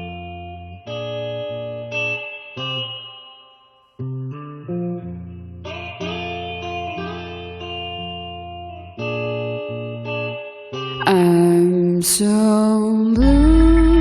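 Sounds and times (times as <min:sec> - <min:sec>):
guitar plucking chords: 0:00.0 - 0:14.0.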